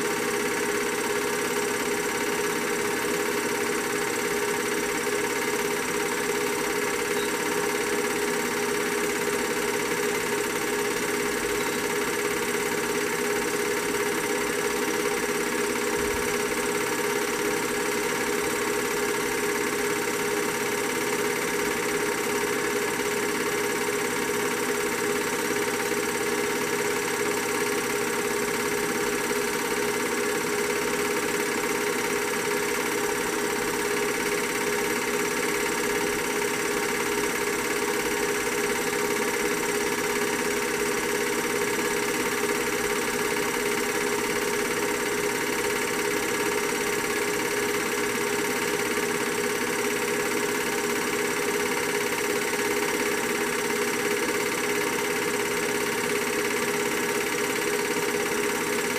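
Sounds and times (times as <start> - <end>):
film projector whirring: 0.0 - 58.9.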